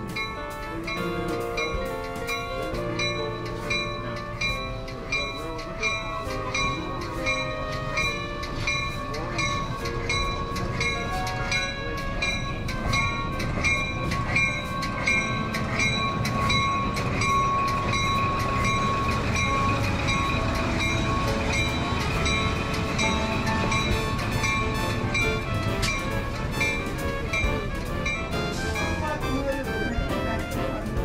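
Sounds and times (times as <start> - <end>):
train wheels clicking on track: 0.0 - 31.0.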